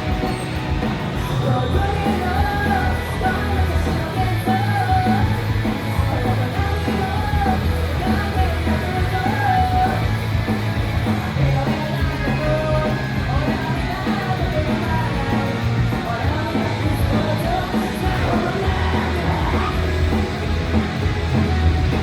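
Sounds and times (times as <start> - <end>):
live rock band playing: 0.0 - 22.0
person singing lead vocals: 0.0 - 22.0.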